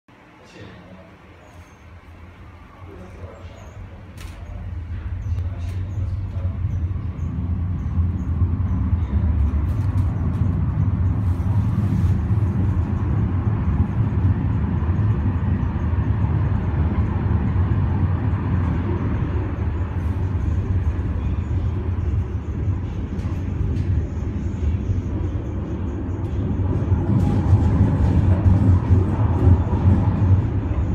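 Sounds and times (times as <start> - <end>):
funicular car rumbling on track: 0.9 - 30.9.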